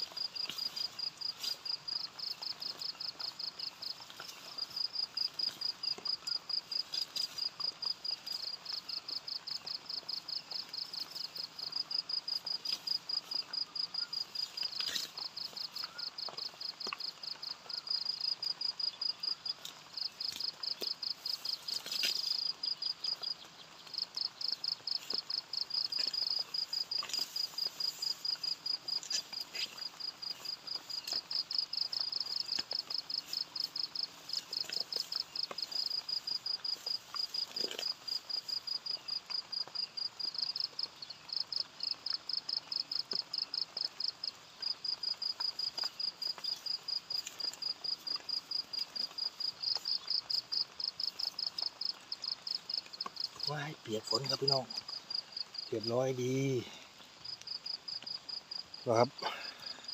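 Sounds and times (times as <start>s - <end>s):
insect chirping trill: 0.0s - 59.9s.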